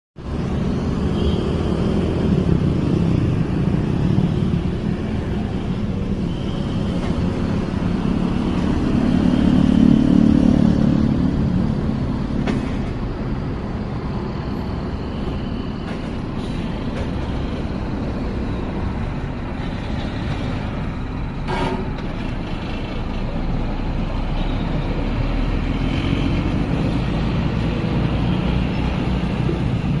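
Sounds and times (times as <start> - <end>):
heavy bus engine running: 0.2 - 30.0
road noise: 0.2 - 30.0.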